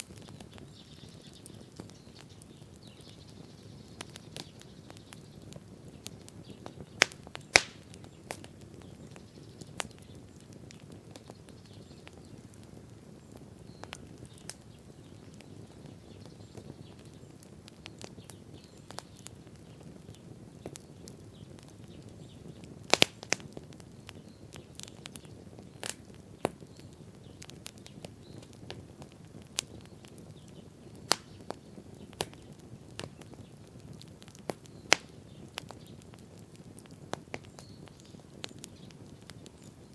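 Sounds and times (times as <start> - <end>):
bonfire crackling and popping: 0.0 - 39.9
low steady fire rumble: 0.0 - 39.9.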